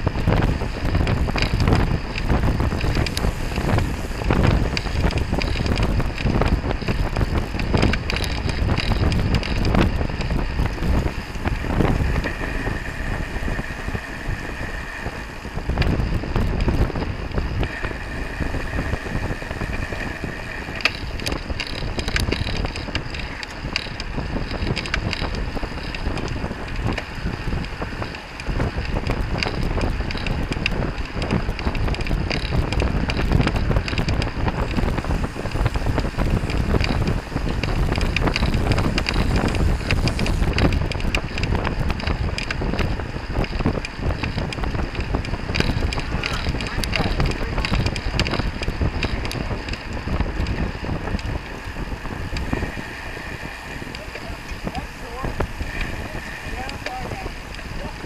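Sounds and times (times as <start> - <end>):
road noise hiss: 0.0 - 58.0
wind buffeting microphone: 0.0 - 58.0.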